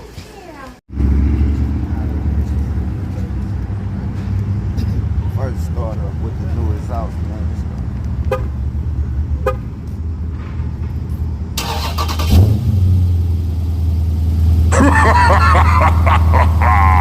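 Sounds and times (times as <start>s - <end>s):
car engine starting and idling: 0.9s - 16.8s.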